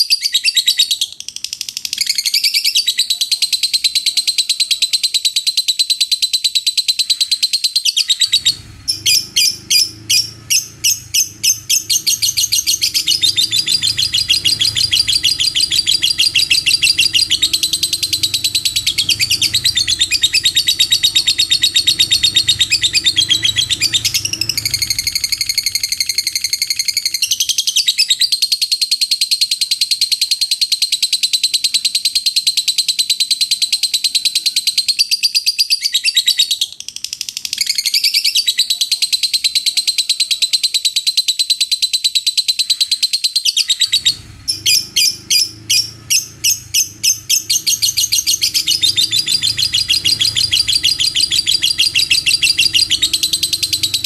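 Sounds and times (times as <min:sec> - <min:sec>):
lovebird high-pitched chattering: 0:00.0 - 0:54.0.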